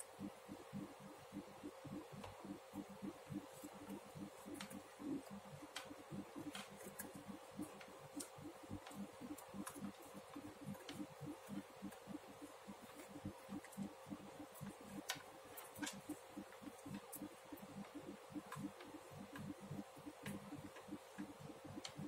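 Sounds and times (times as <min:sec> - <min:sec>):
knitting needles clicking: 0:00.0 - 0:22.0
steady low hum: 0:00.0 - 0:22.0.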